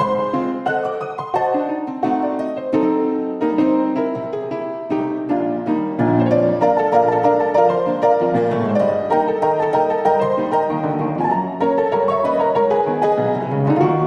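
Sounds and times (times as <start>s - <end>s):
piano with bowed strings: 0.0s - 14.0s.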